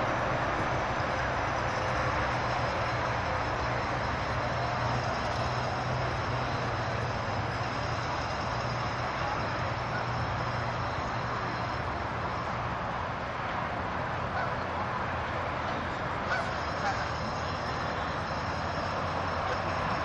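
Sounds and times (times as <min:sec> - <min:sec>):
highway traffic noise: 0:00.0 - 0:20.0.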